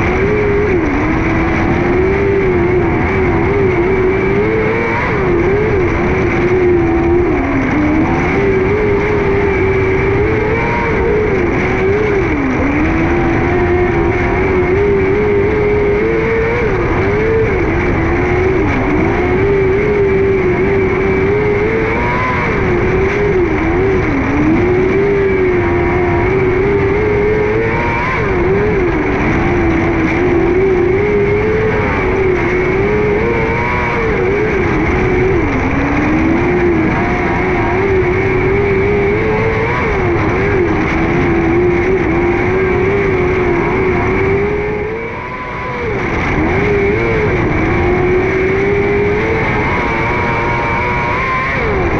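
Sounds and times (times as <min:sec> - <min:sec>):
motorcycle engine revving high: 0:00.0 - 0:51.9
steady rush of noise: 0:00.0 - 0:51.9.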